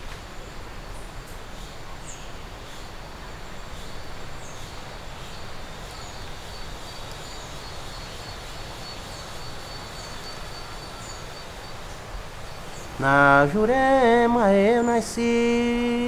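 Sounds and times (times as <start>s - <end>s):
soft hiss and low rumble: 0.0s - 16.0s
high insect drone: 0.3s - 16.0s.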